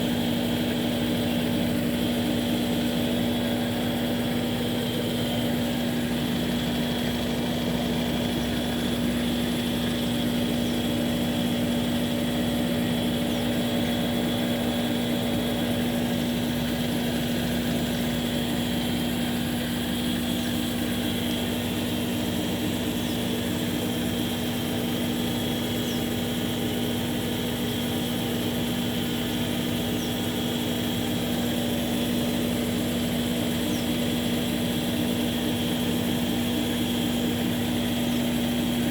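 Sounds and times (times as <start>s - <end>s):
washing machine spin cycle: 0.0s - 38.9s.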